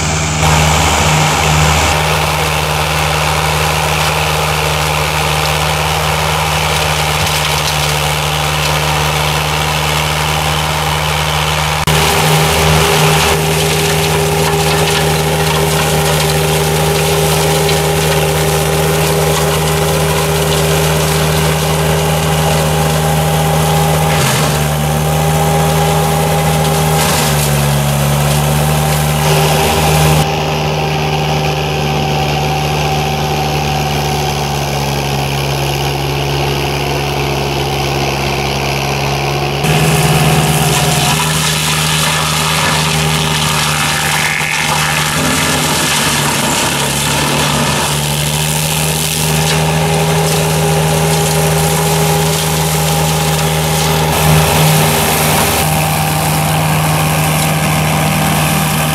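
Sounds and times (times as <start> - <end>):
mulcher engine drone: 0.0 - 58.9.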